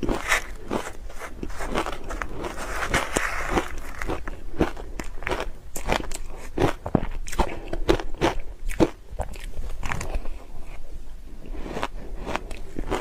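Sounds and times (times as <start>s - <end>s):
person chewing ice: 0.0s - 13.0s.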